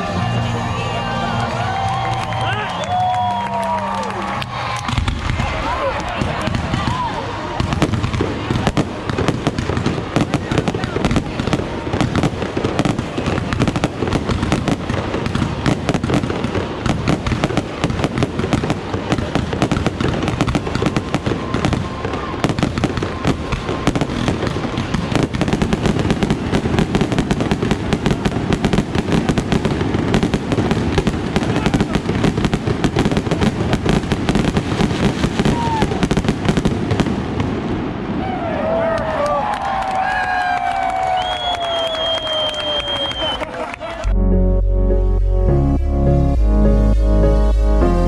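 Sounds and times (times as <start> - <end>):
fireworks bangs and crackles: 1.5 - 44.1.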